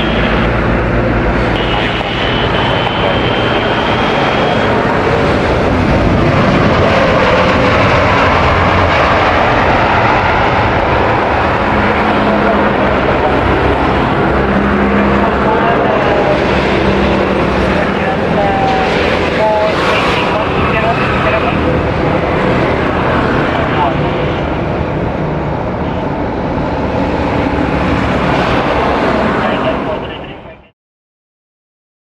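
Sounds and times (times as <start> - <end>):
jet engines roaring: 0.0 - 30.7.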